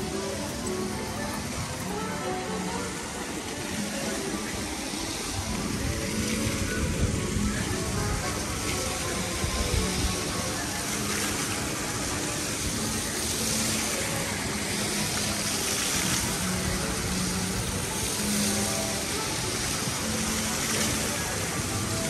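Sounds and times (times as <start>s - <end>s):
faint sustained musical notes: 0.0s - 22.0s
steady rushing street noise: 0.0s - 22.0s.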